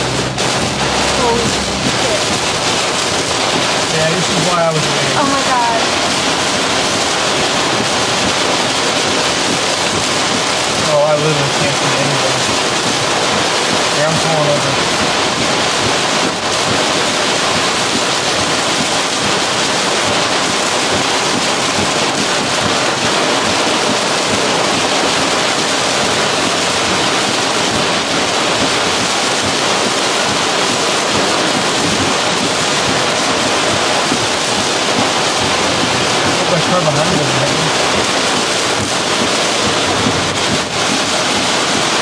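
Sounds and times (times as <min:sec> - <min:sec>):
heavy rain on car roof: 0:00.0 - 0:42.0.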